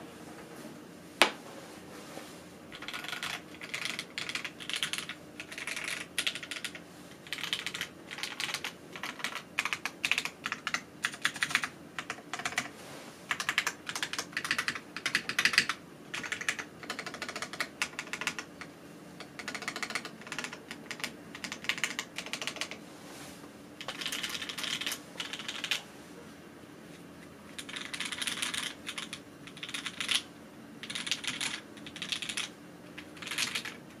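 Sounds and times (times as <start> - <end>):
mechanical keyboard typing: 2.7 - 12.7, 13.3 - 22.8, 23.8 - 25.8, 27.5 - 33.8.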